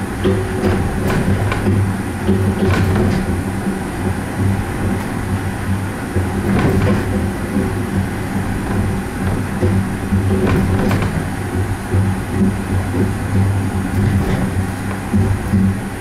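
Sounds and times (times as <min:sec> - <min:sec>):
gondola running hum: 0:00.0 - 0:16.0
running gear clicks and knocks: 0:00.2 - 0:05.4, 0:06.0 - 0:15.9.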